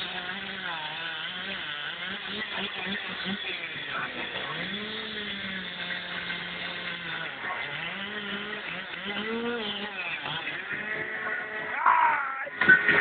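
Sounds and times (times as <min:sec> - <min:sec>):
chainsaw cutting wood: 0:00.0 - 0:11.9, 0:12.5 - 0:13.0.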